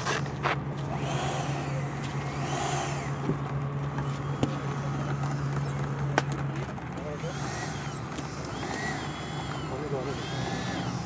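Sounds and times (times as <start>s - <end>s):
ducted fan whine: 0.0s - 11.0s.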